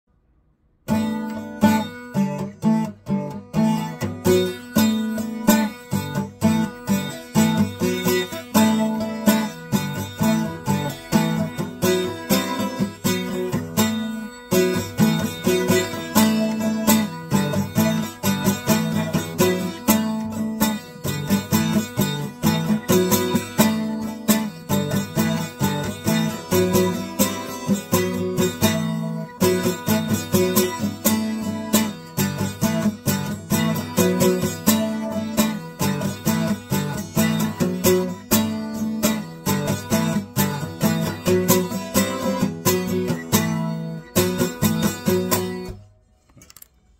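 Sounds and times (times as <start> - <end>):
acoustic guitar strumming: 0.8 - 46.9.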